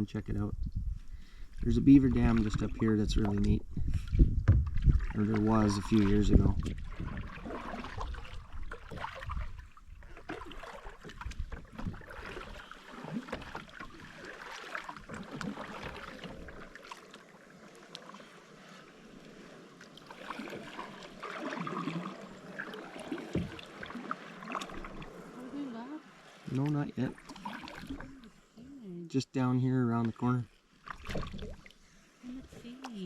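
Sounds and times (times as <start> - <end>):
water lapping against boat: 0.0 - 33.0
paddle strokes in water: 1.0 - 28.6, 29.8 - 33.0
water splashing and dripping: 1.6 - 18.8, 19.8 - 28.3, 29.9 - 33.0.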